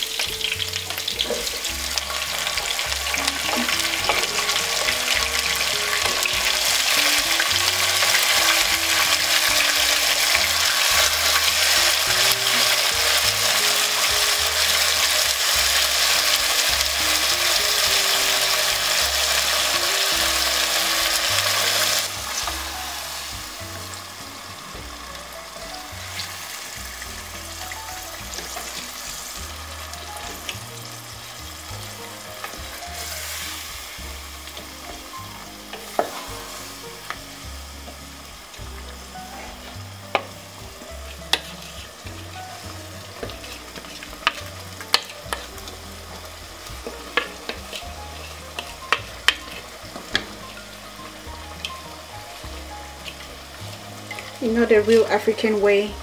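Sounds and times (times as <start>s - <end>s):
oil and onions sizzling: 0.0s - 56.0s
wooden spoon stirring: 0.0s - 56.0s.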